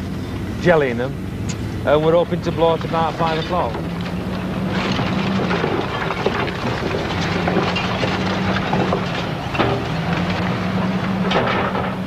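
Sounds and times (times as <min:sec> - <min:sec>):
engine running: 0:00.0 - 0:12.0
bricks and rubble clattering: 0:02.1 - 0:12.0.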